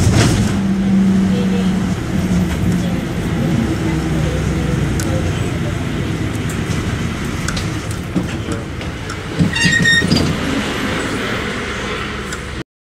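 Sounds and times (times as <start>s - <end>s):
bus diesel engine running: 0.0s - 12.6s
bus rattling: 0.0s - 12.6s.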